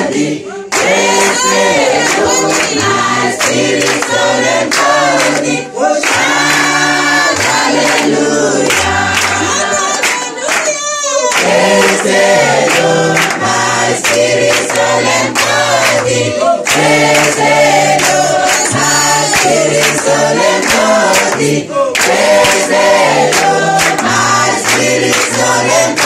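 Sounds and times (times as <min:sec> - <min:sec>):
congregation singing in chorus: 0:00.0 - 0:26.0
hand clapping in time: 0:00.7 - 0:26.0.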